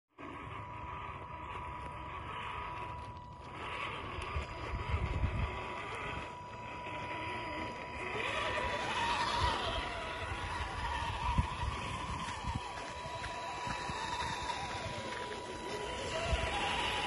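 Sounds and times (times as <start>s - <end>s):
electric motor whining: 0.1s - 17.0s
tyres crunching over gravel: 0.3s - 17.0s.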